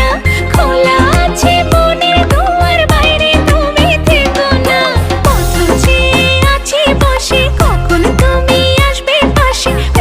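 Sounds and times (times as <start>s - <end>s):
background music with bass beat: 0.0s - 10.0s.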